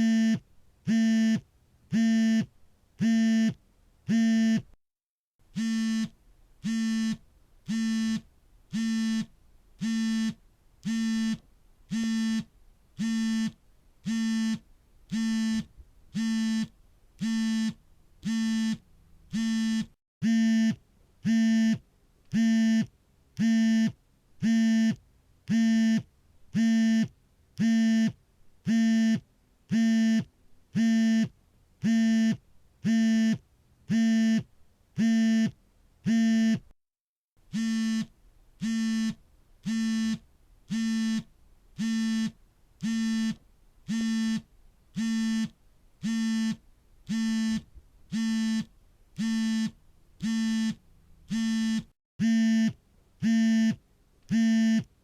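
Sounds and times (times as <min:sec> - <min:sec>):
smartphone vibrating buzz: 0:00.0 - 0:04.7, 0:05.5 - 0:36.7, 0:37.5 - 0:54.9.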